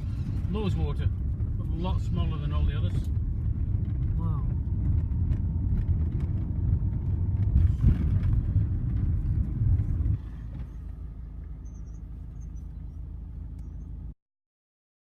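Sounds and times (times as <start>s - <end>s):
engine and road rumble: 0.0s - 14.2s.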